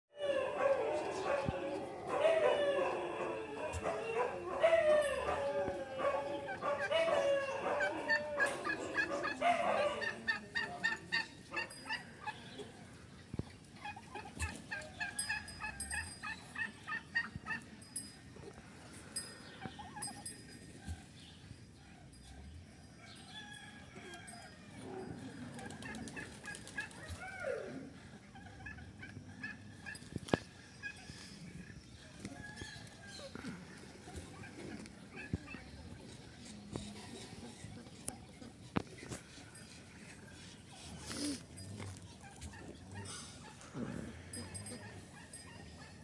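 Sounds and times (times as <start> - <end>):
turkeys calling: 0.2 - 17.7, 25.5 - 36.0, 36.8 - 46.0
turkeys warbling: 0.2 - 17.7, 19.4 - 21.1, 24.0 - 36.0, 36.8 - 46.0.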